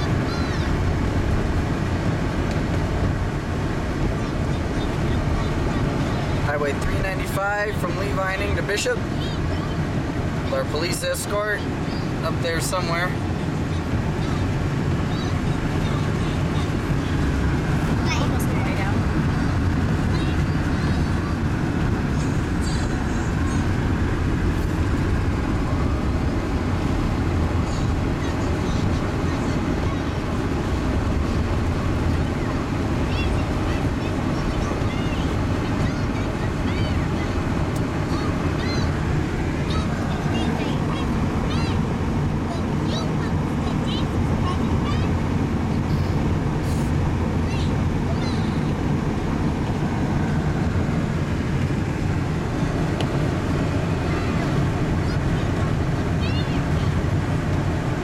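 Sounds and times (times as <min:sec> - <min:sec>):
vehicle road and engine rumble: 0:00.0 - 0:58.0.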